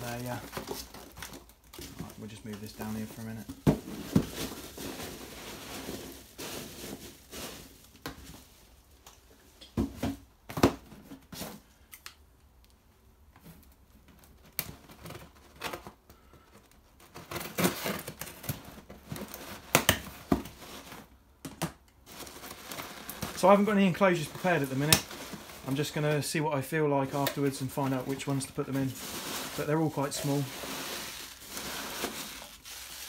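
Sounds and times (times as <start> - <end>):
cardboard and packing peanuts handled: 0.0 - 11.8, 13.4 - 21.4, 22.0 - 33.0.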